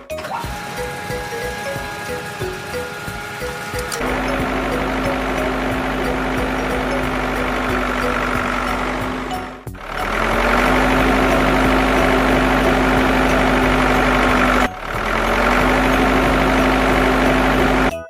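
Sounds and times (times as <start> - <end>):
construction machine engine running: 0.0 - 17.9.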